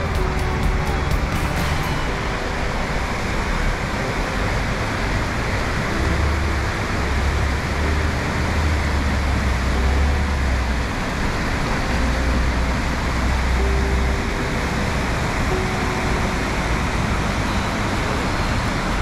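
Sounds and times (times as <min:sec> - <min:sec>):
river water rushing over weir: 0:00.0 - 0:19.0.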